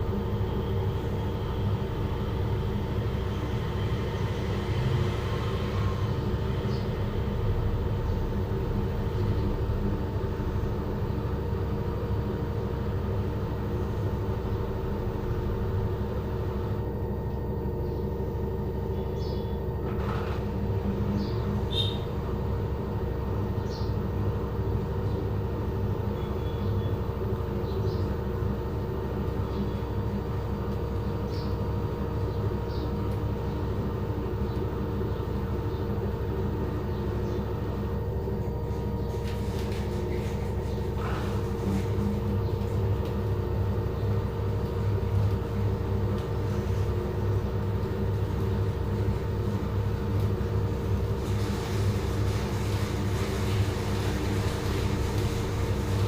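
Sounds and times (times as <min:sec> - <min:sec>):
washing machine drum spinning: 0:00.0 - 0:56.0.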